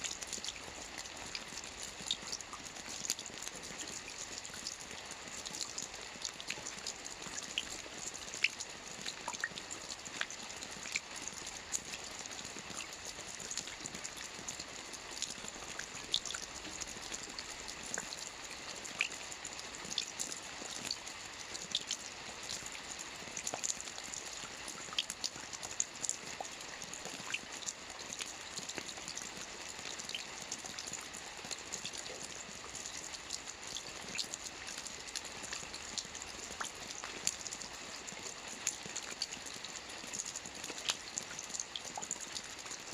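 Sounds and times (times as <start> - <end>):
light rain hissing: 0.0 - 42.9
raindrops ticking: 0.1 - 42.9.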